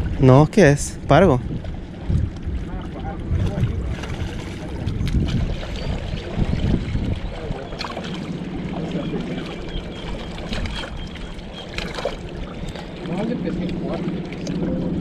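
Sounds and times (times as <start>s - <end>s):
low steady hum: 0.0s - 15.0s
wind buffeting microphone: 0.0s - 15.0s
waves lapping against rocks: 1.4s - 15.0s.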